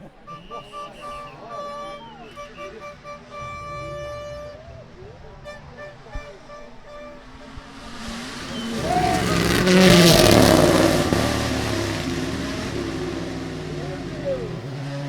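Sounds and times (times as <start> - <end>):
rally car engine revving: 0.0 - 15.0
tyre noise: 0.0 - 15.0.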